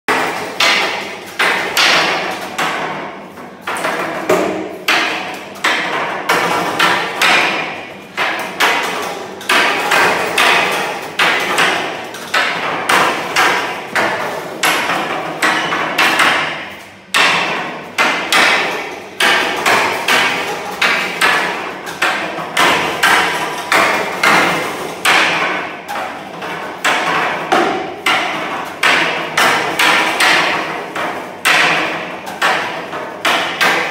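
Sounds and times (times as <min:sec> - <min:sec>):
wooden staff striking wooden pole: 0:00.1 - 0:33.9.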